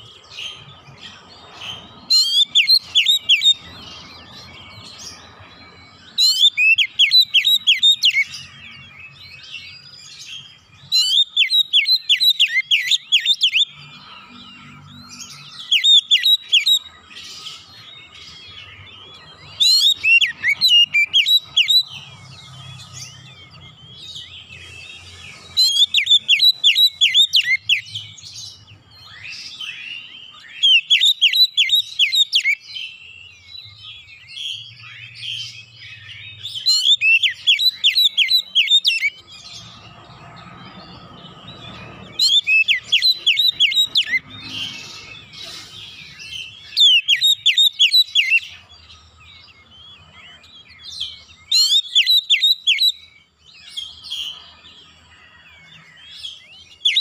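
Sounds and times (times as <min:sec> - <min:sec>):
bird song bursts: 0:00.0 - 0:57.0
soft bird twittering: 0:00.0 - 0:57.0.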